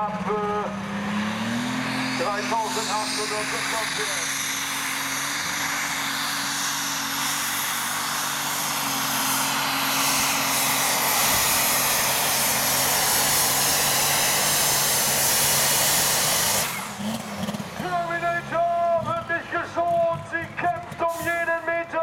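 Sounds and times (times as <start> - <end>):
high steady turbo whine: 0.0 - 21.8
diesel tractor engine at full load: 0.0 - 22.0.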